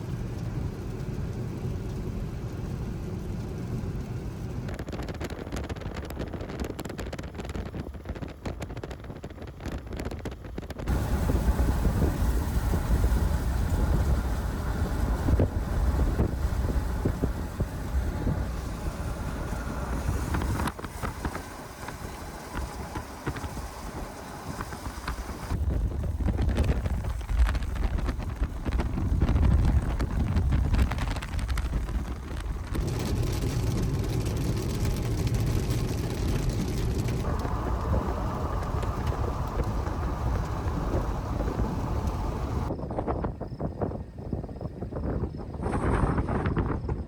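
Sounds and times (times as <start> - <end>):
wind buffeting microphone: 3.9 - 47.0.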